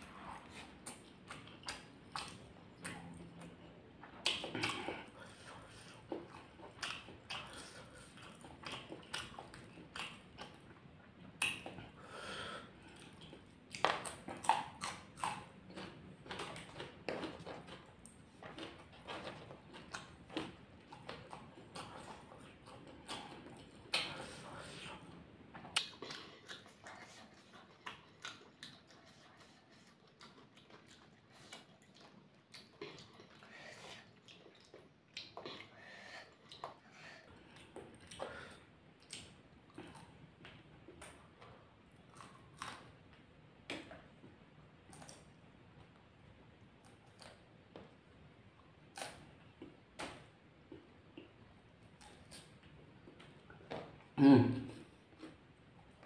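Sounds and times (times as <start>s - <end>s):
mouth sounds of eating: 0.0s - 10.7s, 11.3s - 42.9s, 48.6s - 56.0s
chewing with crisp crunches: 0.0s - 12.1s, 12.8s - 56.0s.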